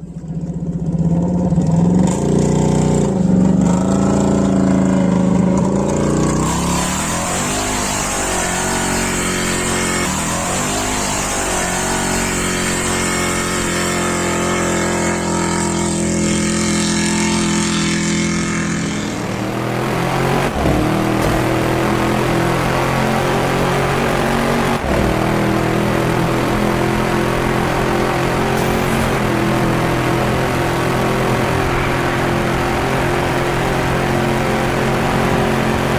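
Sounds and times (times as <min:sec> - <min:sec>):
buggy car engine running: 0:00.0 - 0:35.9.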